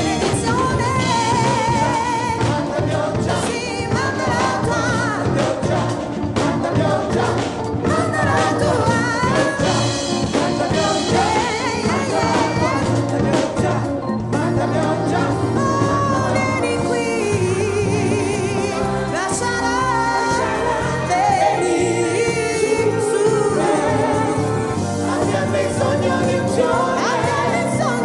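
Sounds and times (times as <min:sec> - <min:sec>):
band with drum kit: 0:00.0 - 0:28.0
gospel choir singing: 0:00.0 - 0:28.0.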